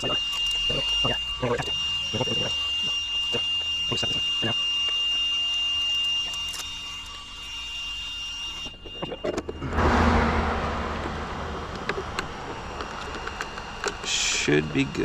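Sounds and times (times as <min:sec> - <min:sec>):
rc car high whine: 0:00.0 - 0:15.0.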